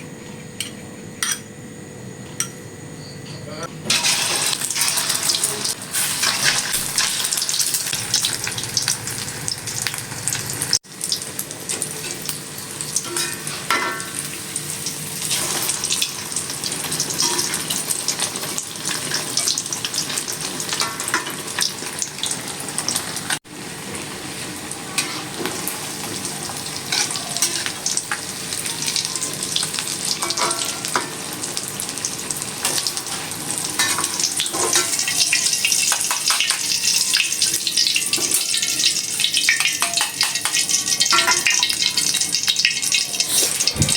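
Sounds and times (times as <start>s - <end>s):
food sizzling in hot oil: 3.9s - 43.9s.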